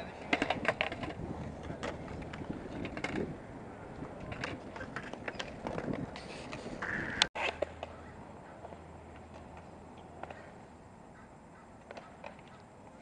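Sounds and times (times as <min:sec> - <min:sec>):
skateboards clacking on concrete: 0:00.0 - 0:08.0, 0:08.6 - 0:10.7, 0:11.8 - 0:13.0
skateboard wheels rolling: 0:00.0 - 0:10.9.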